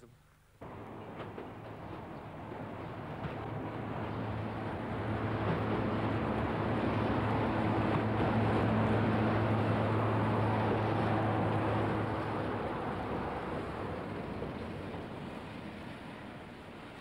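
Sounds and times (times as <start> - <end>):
diesel locomotive engine approaching: 0.6 - 17.0.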